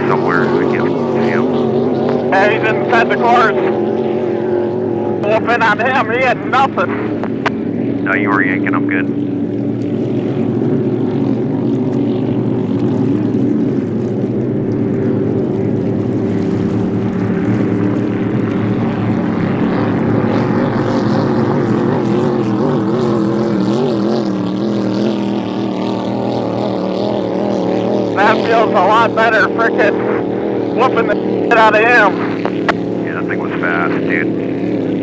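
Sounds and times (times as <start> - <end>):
hydroplane engine droning: 0.0 - 35.0.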